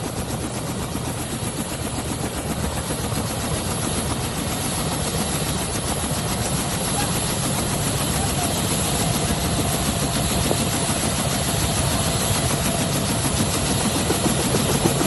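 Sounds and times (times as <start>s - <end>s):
helicopter engine rushing noise: 0.0s - 15.0s
helicopter rotor chop: 0.0s - 15.0s.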